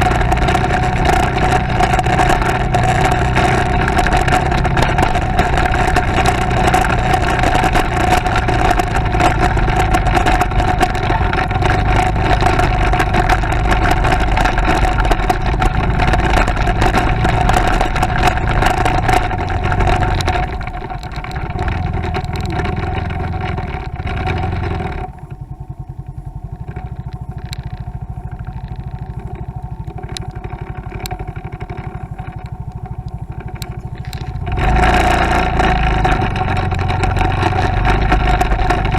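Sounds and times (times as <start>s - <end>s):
motorcycle engine idling: 0.0s - 38.9s
motorcycle engine running: 0.0s - 38.9s
road and wind noise: 0.0s - 38.9s.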